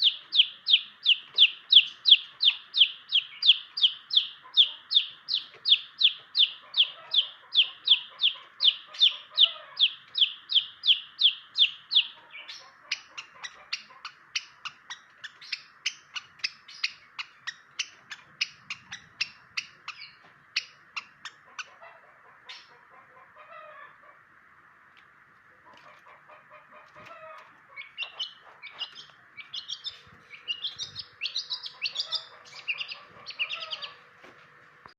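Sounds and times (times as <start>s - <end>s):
bird harsh calls and chips: 0.0s - 23.9s, 25.6s - 34.9s.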